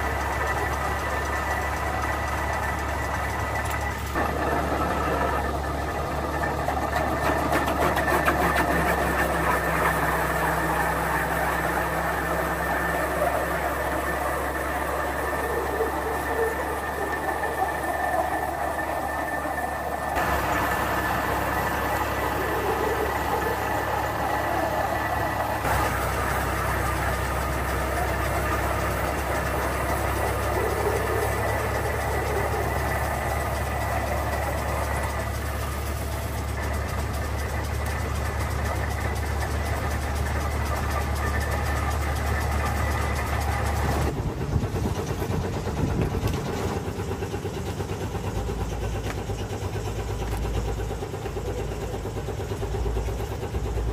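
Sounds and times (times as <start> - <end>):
machinery low drone: 0.0 - 53.9.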